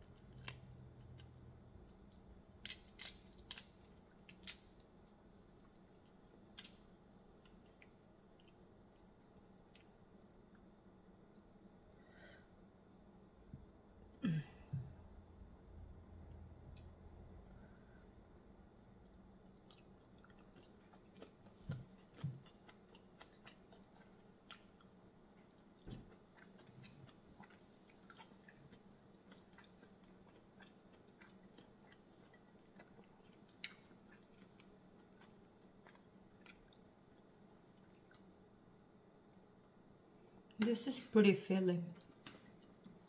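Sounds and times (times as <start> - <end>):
faint chewing and mouth sounds: 0.0 - 13.7, 15.6 - 40.8, 41.9 - 43.0.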